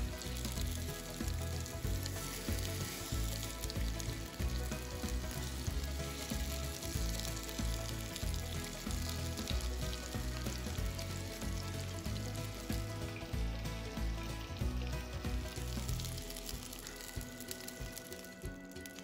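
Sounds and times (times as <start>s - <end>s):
tofu sizzling in a pan: 0.0s - 19.0s.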